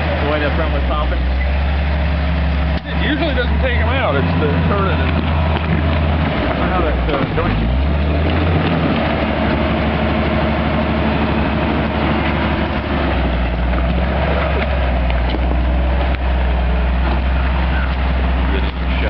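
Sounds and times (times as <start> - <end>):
off-road vehicle engine droning: 0.0 - 19.0.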